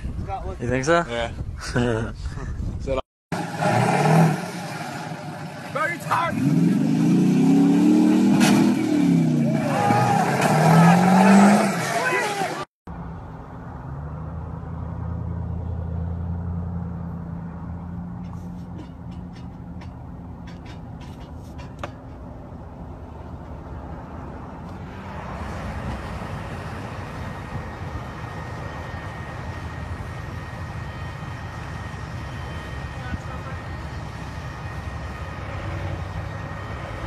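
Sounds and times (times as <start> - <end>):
tyre and road noise: 2.7 - 37.0
traffic engine hum: 3.3 - 37.0.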